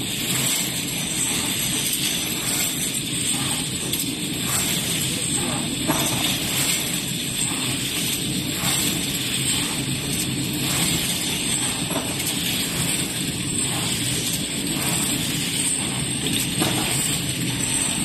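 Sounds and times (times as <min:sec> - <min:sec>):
machine drone and hiss: 0:00.0 - 0:18.0.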